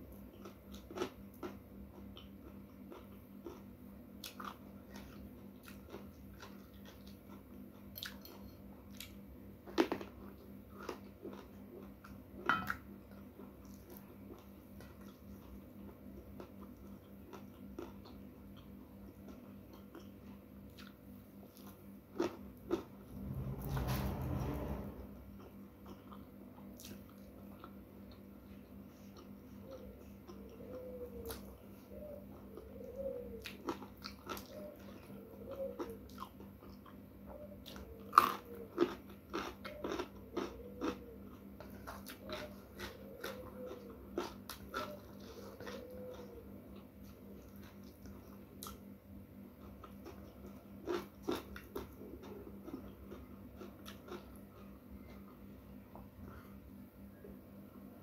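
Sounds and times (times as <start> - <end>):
wet chewing: 0.1 - 23.8, 25.4 - 48.9, 49.5 - 56.5.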